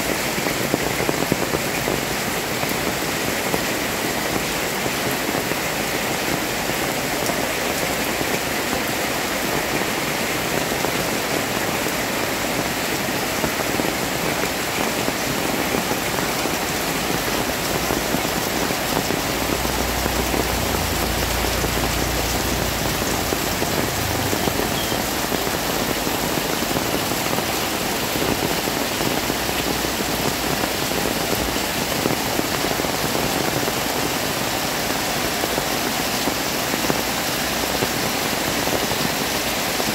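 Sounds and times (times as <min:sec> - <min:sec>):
heavy rain on street and tin awnings: 0:00.0 - 0:39.9.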